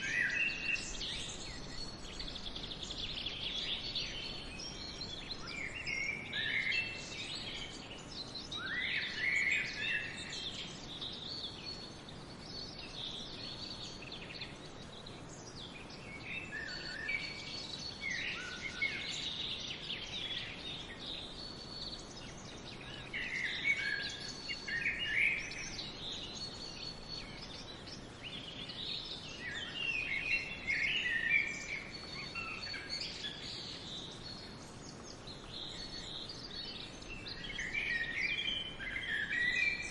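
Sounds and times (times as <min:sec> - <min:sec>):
background hiss: 0:00.0 - 0:39.9
small birds chirping: 0:00.0 - 0:39.9.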